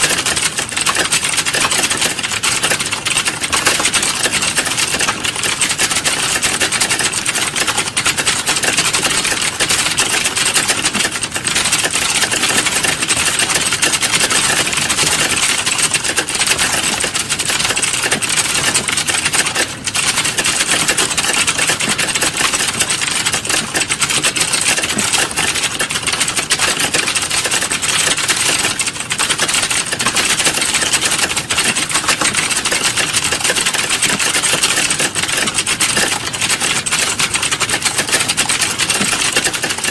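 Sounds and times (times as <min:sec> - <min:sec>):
rapid typing on keyboard: 0:00.0 - 0:39.9.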